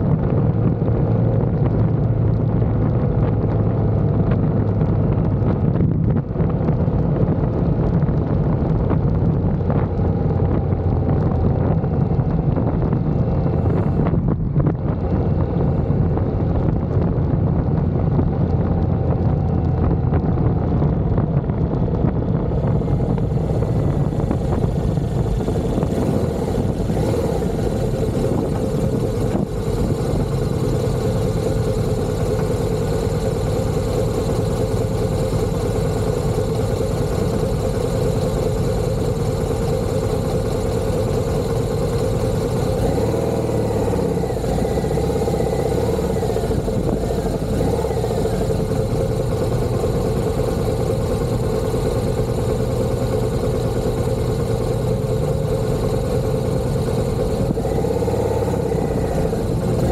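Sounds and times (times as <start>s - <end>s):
motorcycle engine hum: 0.0s - 59.9s
wind noise on microphone: 0.0s - 59.9s.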